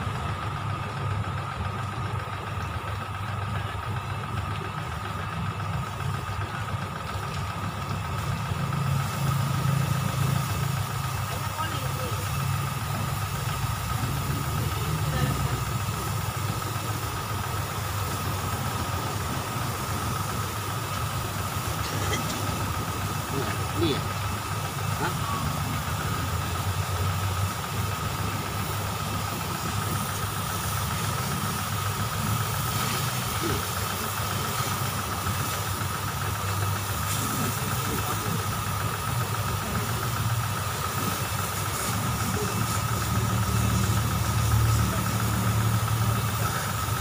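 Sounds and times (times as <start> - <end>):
engine idling with high whine: 0.0 - 47.0.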